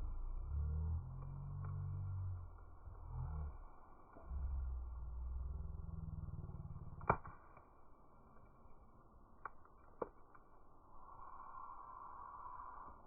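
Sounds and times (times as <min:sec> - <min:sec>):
fire crackling pops: 0:00.0 - 0:13.0
wood fire low rumble: 0:00.0 - 0:13.0.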